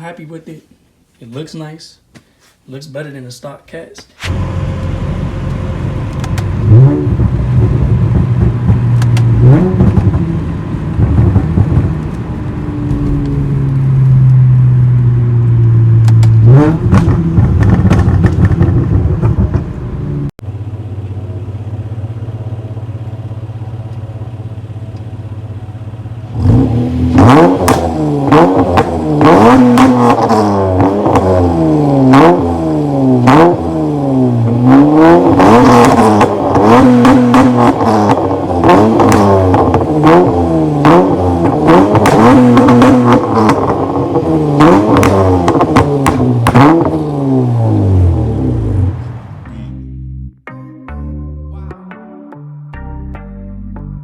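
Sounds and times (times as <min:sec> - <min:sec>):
car engine idling and revving: 0:04.2 - 0:50.3.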